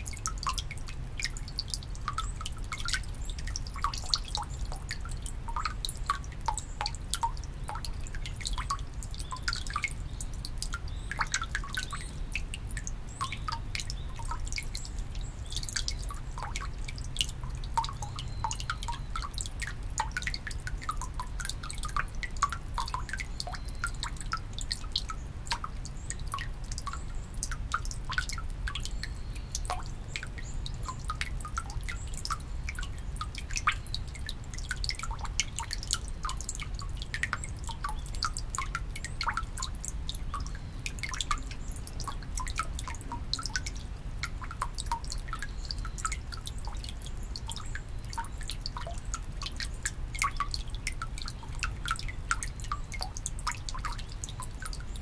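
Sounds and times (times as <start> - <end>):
water dripping into stone basin: 0.0 - 55.0.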